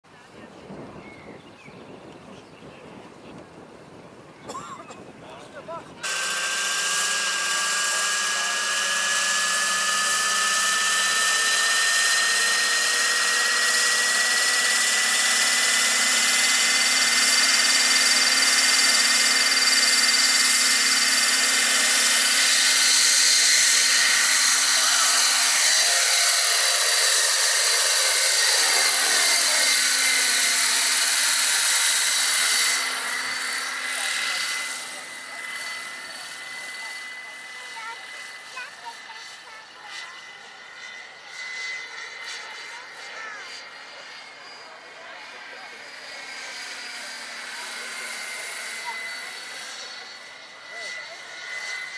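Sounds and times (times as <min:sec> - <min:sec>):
rc helicopter motor whine: 0:03.3 - 0:51.9
rotor blades rushing: 0:04.5 - 0:51.9.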